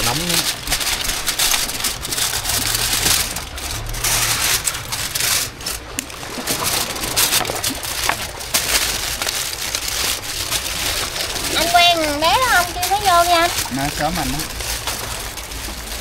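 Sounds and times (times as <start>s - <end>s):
aluminium foil crinkling: 0.0s - 16.0s
low rumble: 0.0s - 16.0s.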